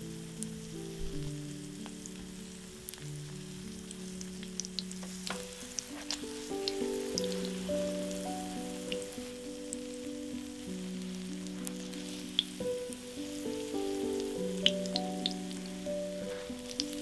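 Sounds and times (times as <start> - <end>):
oil sizzling and popping: 0.0 - 17.0.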